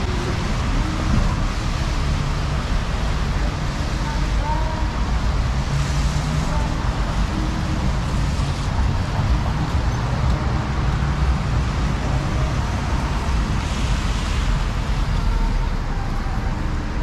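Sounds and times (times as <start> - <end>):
low rumble of traffic: 0.0 - 17.0
car tyres hissing on wet road: 0.1 - 9.7, 11.1 - 15.9.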